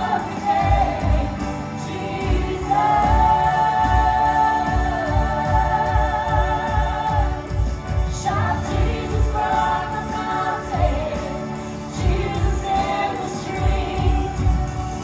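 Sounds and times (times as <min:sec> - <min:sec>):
singing: 0:00.0 - 0:15.0.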